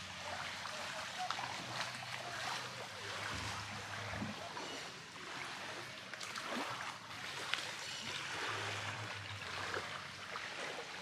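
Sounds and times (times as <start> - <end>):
seawater splashing and lapping: 0.0 - 11.0.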